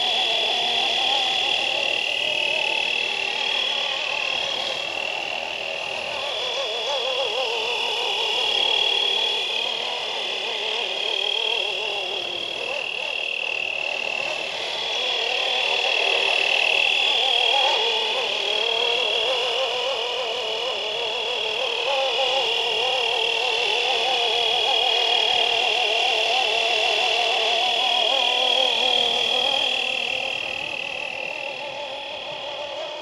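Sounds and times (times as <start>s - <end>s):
rc helicopter rotor whine: 0.0s - 33.0s.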